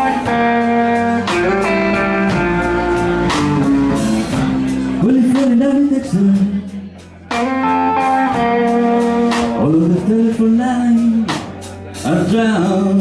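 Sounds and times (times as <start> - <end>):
blues band playing: 0.0 - 13.0
electric guitar with bent notes: 0.0 - 13.0
person singing: 1.2 - 13.0.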